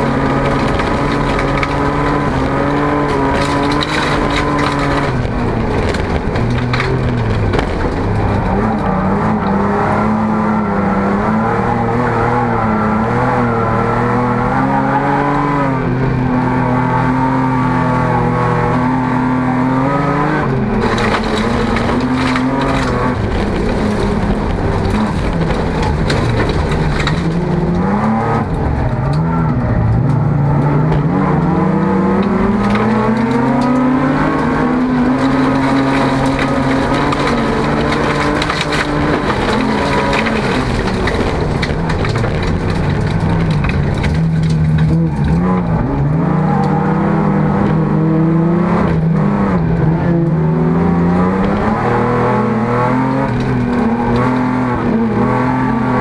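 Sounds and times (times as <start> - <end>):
knocks and rattles: 0.0 - 10.3, 19.9 - 46.7, 47.6 - 56.0
car engine revving: 0.0 - 56.0.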